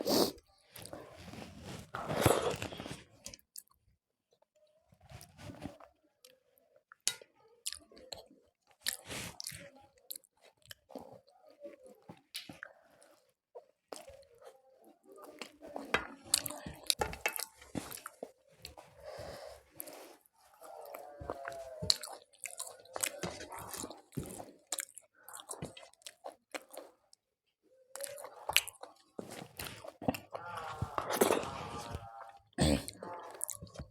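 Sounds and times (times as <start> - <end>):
person chewing food: 0.0 - 3.8, 5.1 - 27.2, 27.9 - 33.9.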